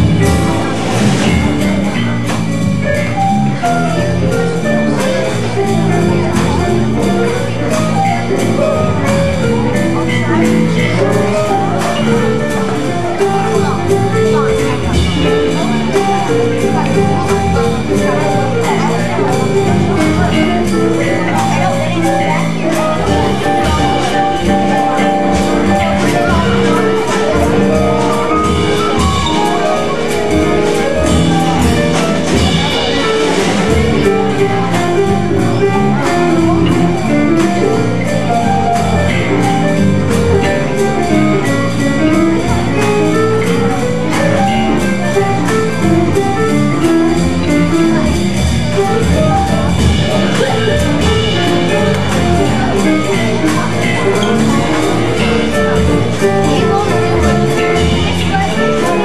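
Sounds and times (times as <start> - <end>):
jazz trio playing: 0.0 - 59.0.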